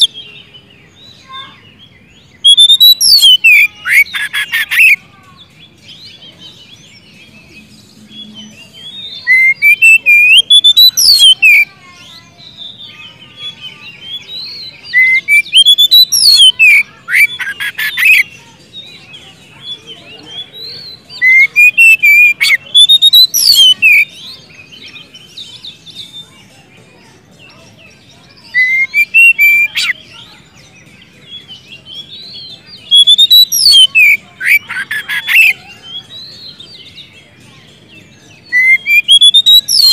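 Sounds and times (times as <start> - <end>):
songbird singing loudly: 0.0 - 26.6, 27.3 - 39.9.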